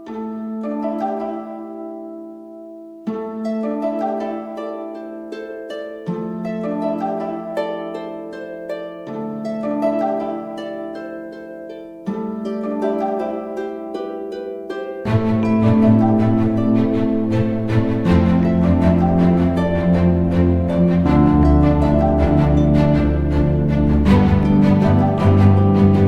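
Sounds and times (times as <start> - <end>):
gentle plucked harp-like notes: 0.0 - 26.0.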